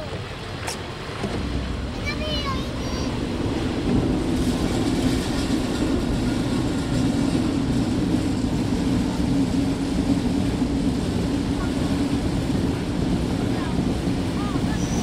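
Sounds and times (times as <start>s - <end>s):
boat motor droning: 0.0s - 15.0s
wind and water hiss: 0.0s - 15.0s.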